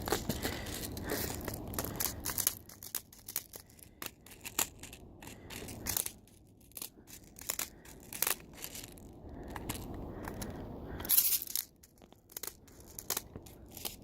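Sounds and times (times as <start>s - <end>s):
crunching and crackling: 0.0s - 14.0s.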